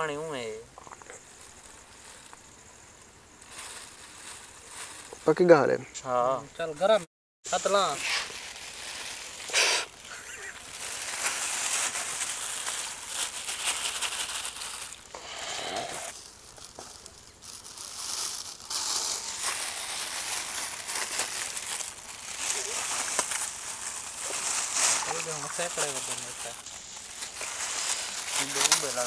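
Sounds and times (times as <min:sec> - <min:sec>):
plastic bags crinkling: 0:03.3 - 0:05.6, 0:07.5 - 0:29.0.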